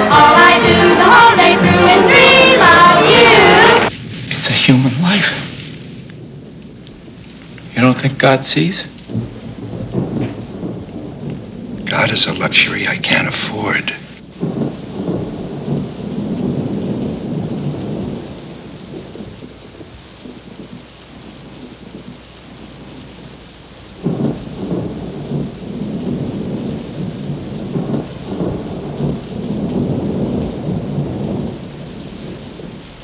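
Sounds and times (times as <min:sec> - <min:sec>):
rolling thunder: 0:00.0 - 0:33.0
steady rain: 0:00.0 - 0:33.0
thunder clap: 0:00.0 - 0:33.0.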